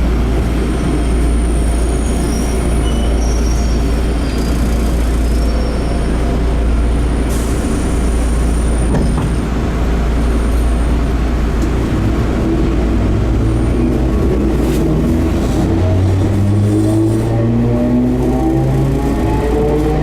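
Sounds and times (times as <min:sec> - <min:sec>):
train running rumble: 0:00.0 - 0:20.0.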